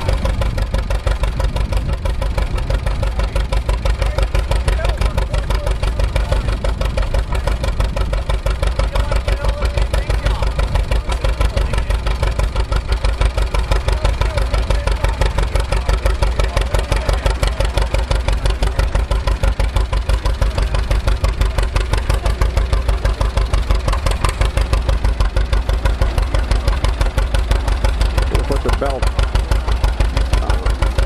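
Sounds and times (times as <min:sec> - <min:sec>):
engine idling with low thumps: 0:00.0 - 0:31.0.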